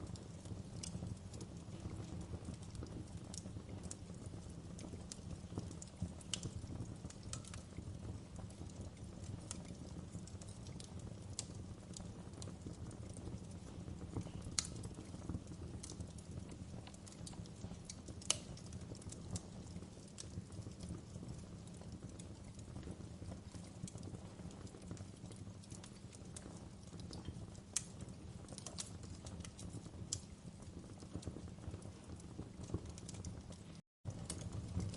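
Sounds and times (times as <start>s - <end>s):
fire pops and snaps: 0.0s - 34.9s
low rumble of burning wood: 0.0s - 34.9s.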